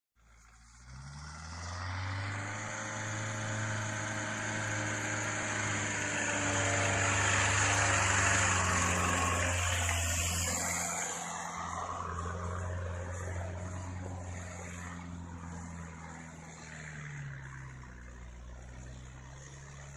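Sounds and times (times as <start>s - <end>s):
off-road vehicle engine under load: 0.2s - 19.9s.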